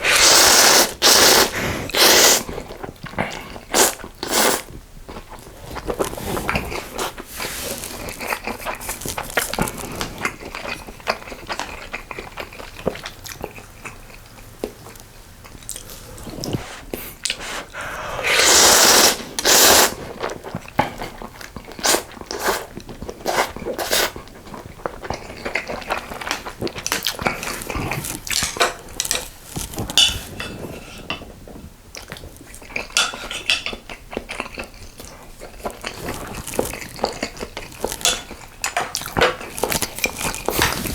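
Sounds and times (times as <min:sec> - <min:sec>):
chewing: 0:00.1 - 0:40.9.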